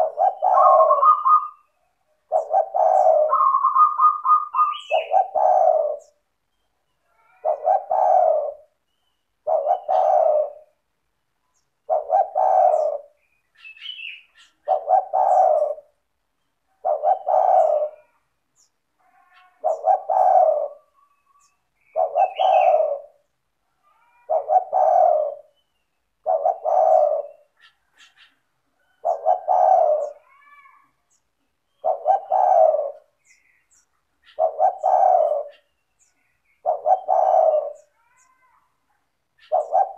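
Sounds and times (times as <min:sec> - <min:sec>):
dove cooing: 0:00.0 - 0:06.3, 0:07.0 - 0:10.9, 0:11.5 - 0:38.8, 0:39.4 - 0:39.9
small birds chirping: 0:00.0 - 0:39.9.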